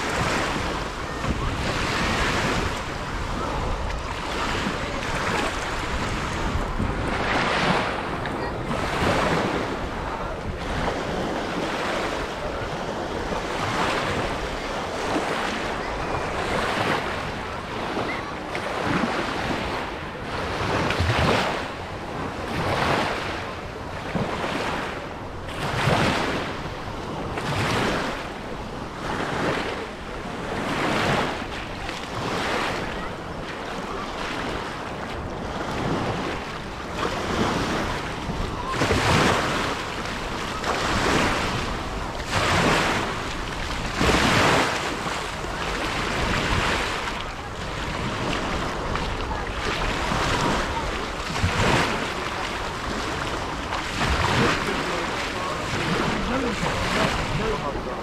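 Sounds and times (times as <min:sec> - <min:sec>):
waves washing on beach: 0:00.0 - 0:58.0
wind buffeting microphone: 0:00.0 - 0:58.0.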